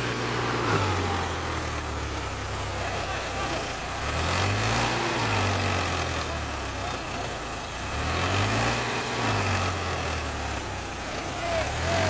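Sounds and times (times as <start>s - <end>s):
tractor diesel engine straining: 0.0s - 12.0s.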